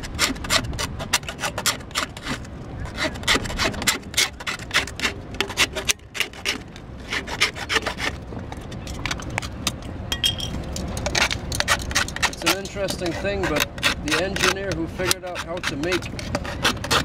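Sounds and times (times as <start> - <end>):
metal file scraping can rim: 0.0 - 8.2, 11.1 - 17.0.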